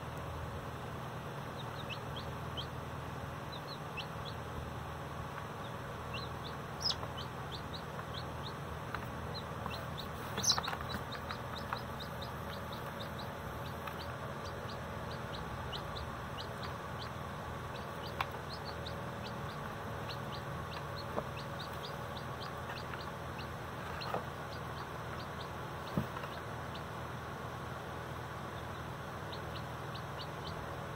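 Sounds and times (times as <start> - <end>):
baby chicks peeping: 0.7 - 30.9.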